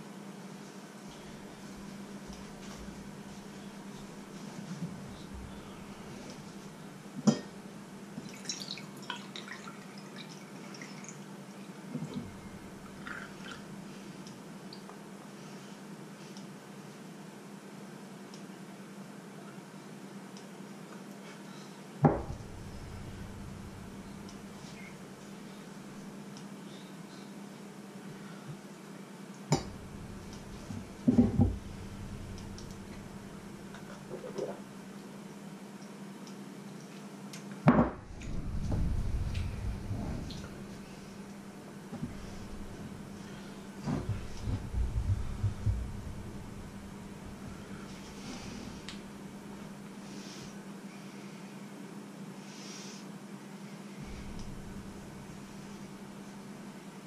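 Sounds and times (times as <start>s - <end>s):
low steady hum: 0.0s - 52.6s, 53.3s - 57.0s.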